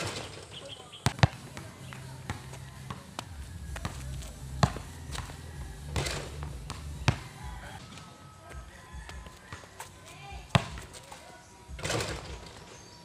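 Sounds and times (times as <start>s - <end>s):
basketball bouncing on concrete: 1.0s - 12.6s.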